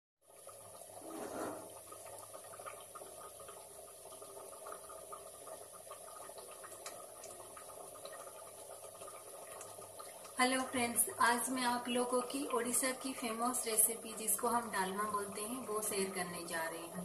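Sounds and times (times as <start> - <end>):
food simmering with bubbling pops: 0.2 - 17.0.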